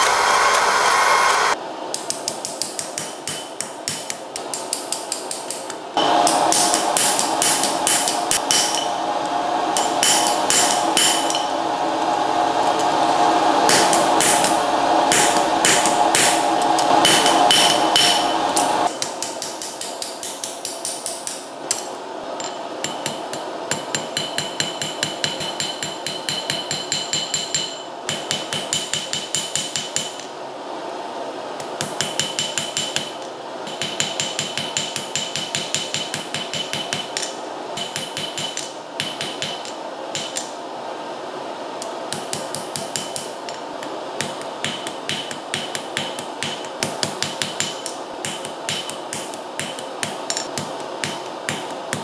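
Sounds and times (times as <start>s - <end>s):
hammer striking hot steel on anvil: 1.9s - 9.1s, 9.7s - 11.7s, 13.6s - 30.3s, 31.8s - 40.6s, 42.1s - 43.6s, 44.2s - 52.0s.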